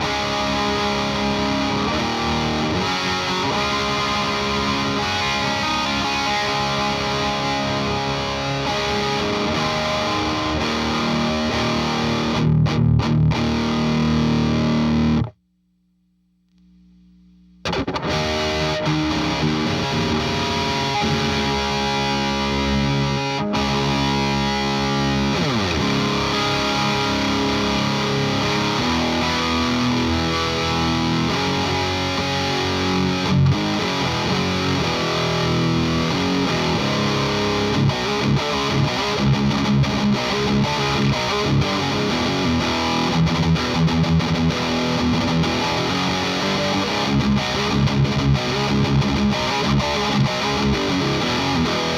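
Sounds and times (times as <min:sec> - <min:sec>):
distorted electric guitar: 0:00.0 - 0:15.4, 0:16.5 - 0:51.9.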